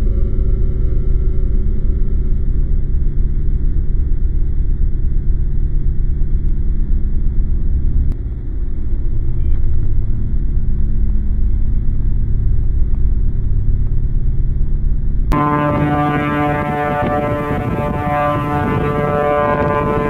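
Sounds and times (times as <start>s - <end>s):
droning tone with overtones: 0.0s - 20.0s
low rumble: 0.0s - 20.0s.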